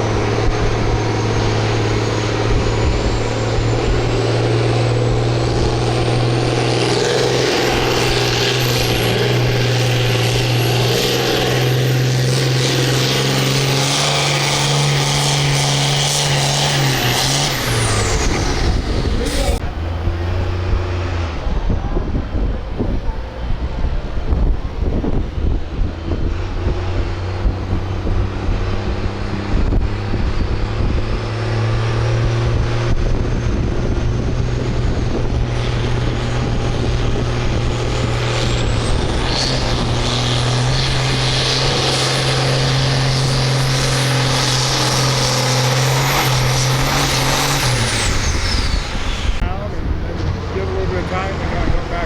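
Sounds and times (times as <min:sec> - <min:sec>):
high engine whine: 0:00.0 - 0:52.0
tractor engine droning under load: 0:00.0 - 0:52.0.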